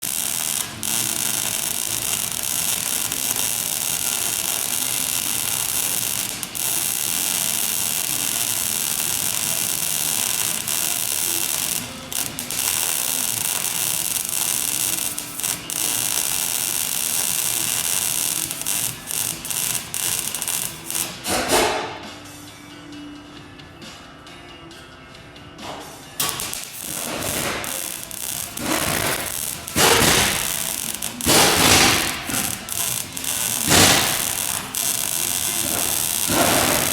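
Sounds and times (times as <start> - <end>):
welding arc hissing: 0.0 - 22.0, 26.2 - 36.9.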